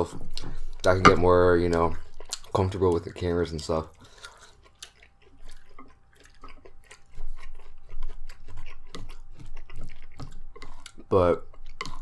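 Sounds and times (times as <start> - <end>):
person chewing with mouth noises: 0.2 - 12.0.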